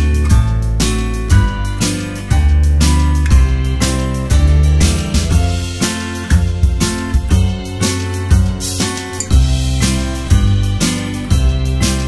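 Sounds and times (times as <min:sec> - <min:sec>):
music with guitar and drums: 0:00.0 - 0:12.0.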